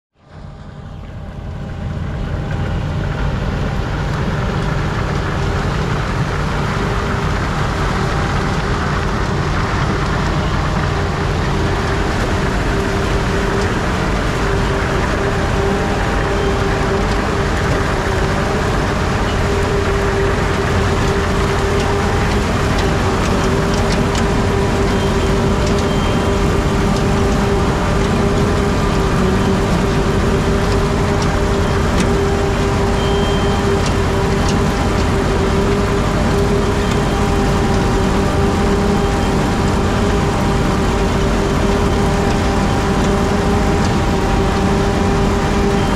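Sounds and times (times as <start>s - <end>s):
harvester engine droning: 0.2s - 45.9s
machinery whine: 0.2s - 45.9s.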